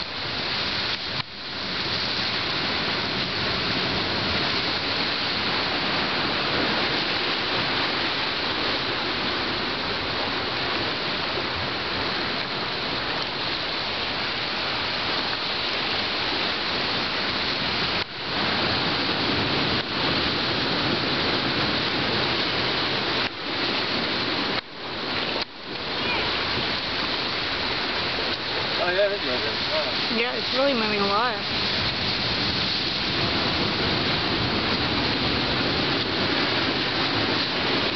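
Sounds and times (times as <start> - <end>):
surf breaking on beach: 0.0 - 37.9.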